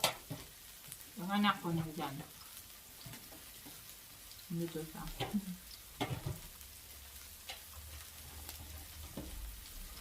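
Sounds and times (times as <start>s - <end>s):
food sizzling on a grill: 0.0s - 10.0s.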